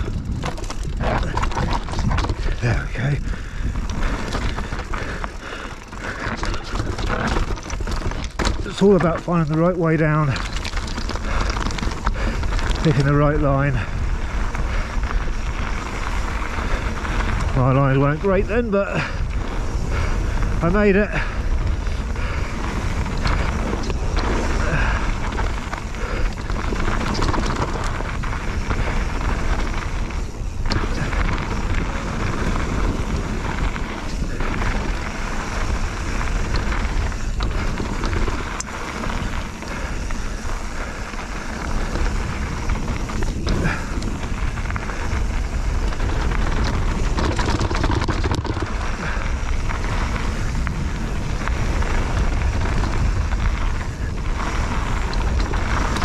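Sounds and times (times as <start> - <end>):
bike rattling: 0.0 - 56.0
bike tyres rolling over stones: 0.0 - 56.0
wind buffeting microphone: 0.0 - 56.0.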